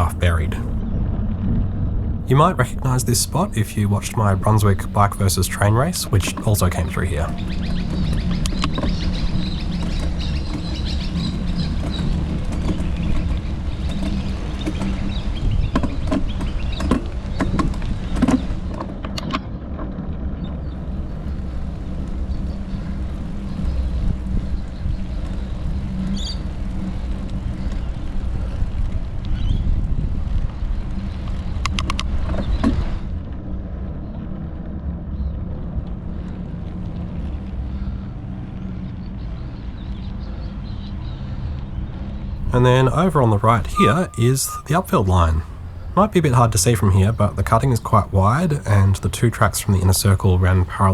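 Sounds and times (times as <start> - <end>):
wind rumble on microphone: 0.0 - 44.7.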